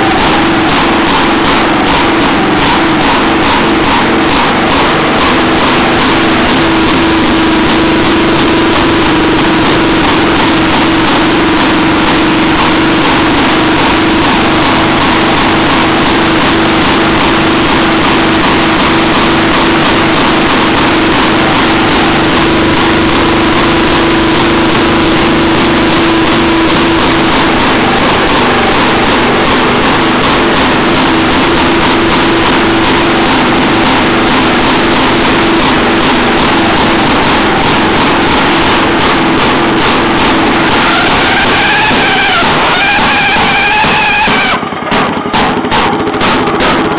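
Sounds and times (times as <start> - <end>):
two-stroke engine running: 0.0 - 46.9.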